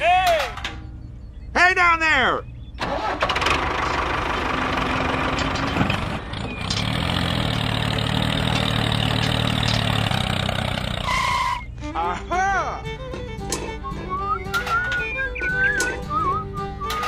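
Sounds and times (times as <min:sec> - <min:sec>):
tractor engine idling: 0:02.5 - 0:17.0.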